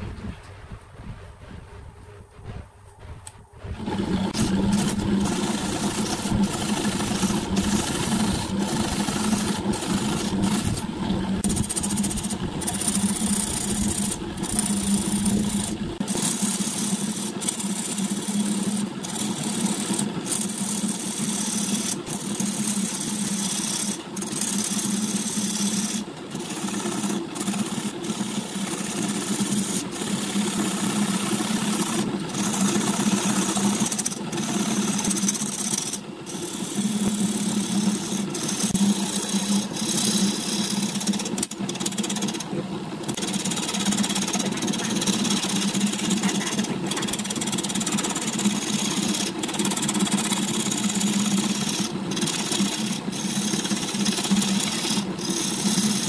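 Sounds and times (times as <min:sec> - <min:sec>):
gouge scraping spinning wood: 0:00.0 - 0:56.0
lathe motor humming: 0:03.5 - 0:56.0.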